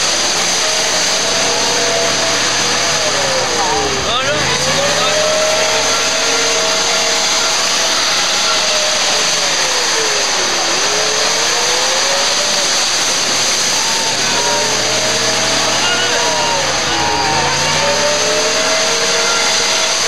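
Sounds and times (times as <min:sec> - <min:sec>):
loud hiss: 0:00.0 - 0:20.0
off-road engine revving: 0:00.0 - 0:20.0.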